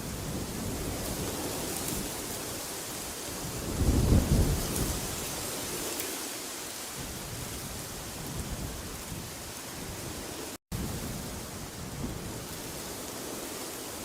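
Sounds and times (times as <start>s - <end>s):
wind blowing: 0.0s - 6.0s, 6.9s - 14.0s.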